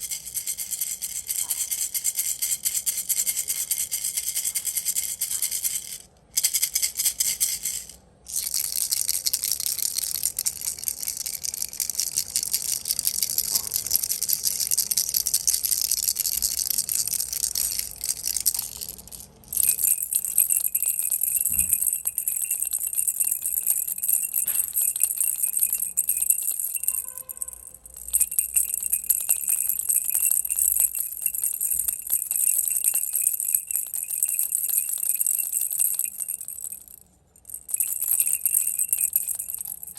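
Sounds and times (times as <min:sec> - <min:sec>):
toy rattle shaking: 0:00.0 - 0:39.9.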